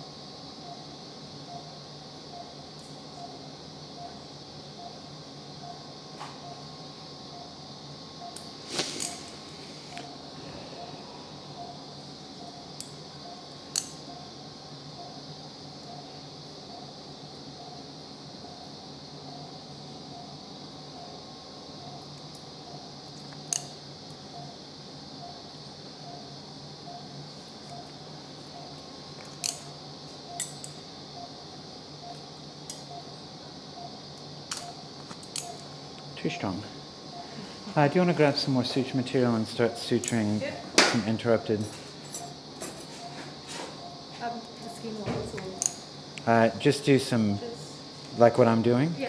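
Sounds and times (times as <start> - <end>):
steady hum: 0.0 - 49.0
patient monitor beeping: 0.6 - 9.2, 9.9 - 23.4, 24.2 - 30.5, 31.1 - 41.8, 42.8 - 46.6.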